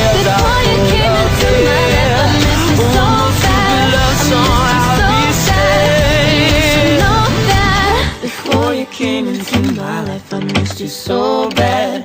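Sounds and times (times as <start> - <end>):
person singing with vibrato: 0.0 - 12.0
pop band backing: 0.0 - 12.0.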